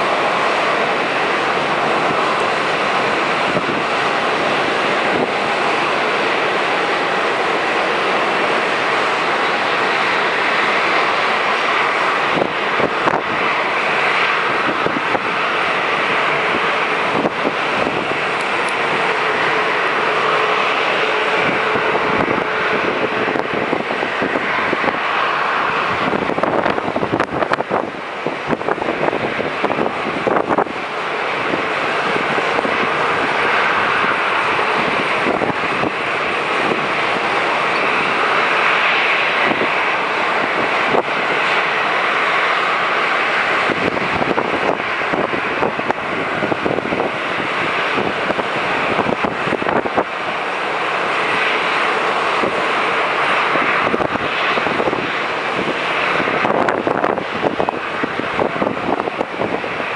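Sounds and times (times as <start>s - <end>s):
jet engines roaring: 0.0s - 59.9s
wind buffeting microphone: 0.0s - 59.9s.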